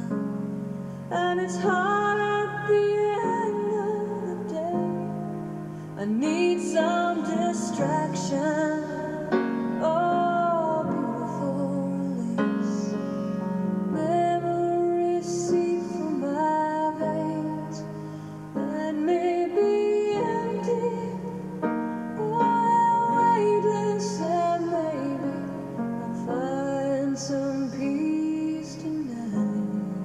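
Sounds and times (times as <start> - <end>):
piano accompaniment: 0.0 - 30.0
woman singing: 0.0 - 30.0.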